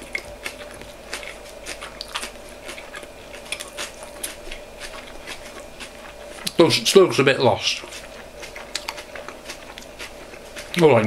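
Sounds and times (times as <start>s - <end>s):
chewing with crisp crunches: 0.0s - 11.0s.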